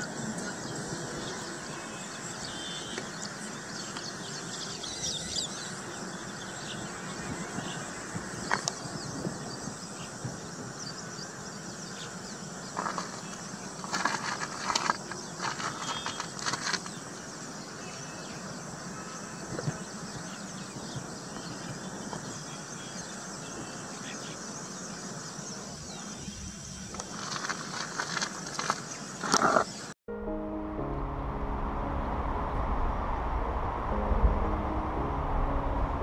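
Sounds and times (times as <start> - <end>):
high insect hiss: 0.0 - 29.9
weaver birds chattering: 0.0 - 29.9.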